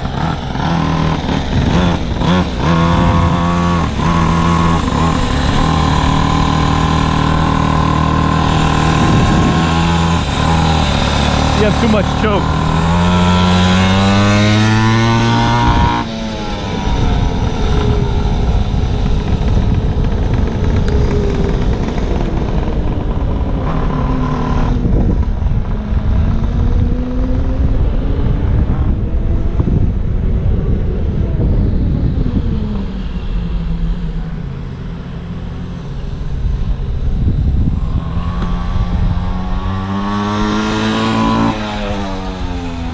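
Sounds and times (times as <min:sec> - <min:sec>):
small gasoline engine revving: 0:00.0 - 0:29.8, 0:37.1 - 0:42.9.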